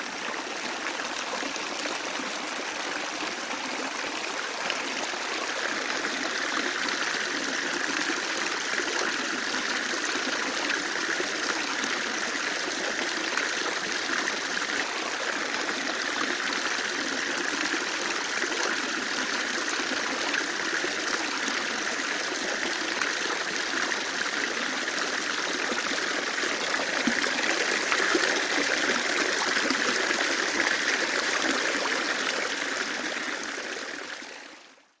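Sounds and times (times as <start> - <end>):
water rushing steadily: 0.0 - 34.9.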